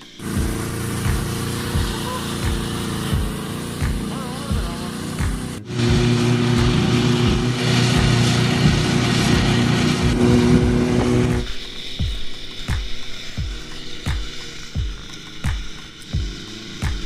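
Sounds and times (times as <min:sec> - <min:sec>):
motor drone with hiss: 0:00.0 - 0:17.0
music with thumping beat: 0:00.0 - 0:17.0.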